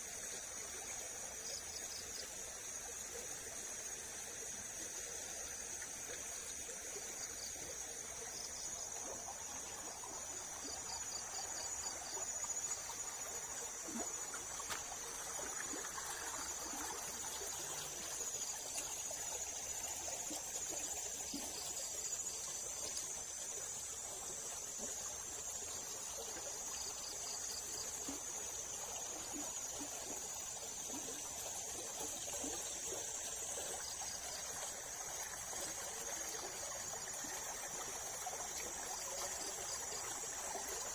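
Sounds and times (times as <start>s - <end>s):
insects chorus: 0.0s - 40.9s
river water flowing over weir: 0.0s - 40.9s.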